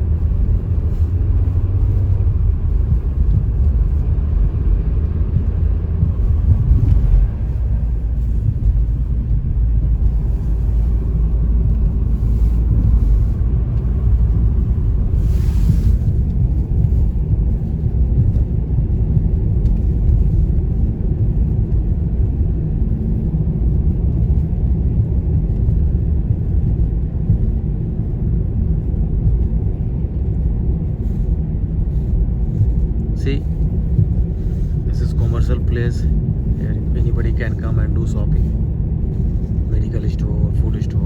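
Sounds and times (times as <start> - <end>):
vehicle road and engine rumble: 0.0 - 41.0.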